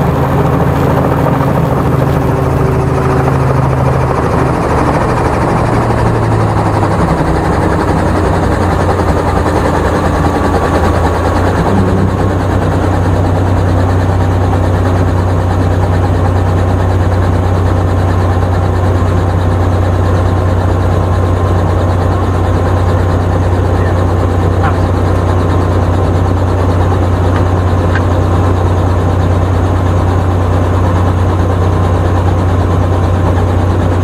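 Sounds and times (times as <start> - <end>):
helicopter engine and rotor drone: 0.0 - 34.0.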